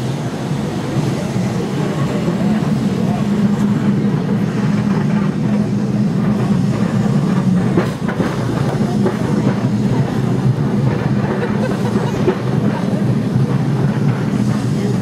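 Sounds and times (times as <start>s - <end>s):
electric tram drone: 0.0s - 15.0s
wheel-on-rail rumble: 0.0s - 15.0s.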